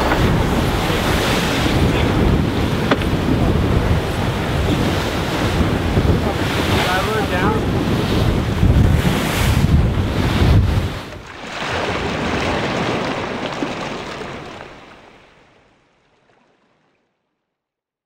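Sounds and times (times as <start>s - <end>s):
wind buffeting microphone: 0.0s - 14.8s
water rushing past hull: 0.0s - 16.9s.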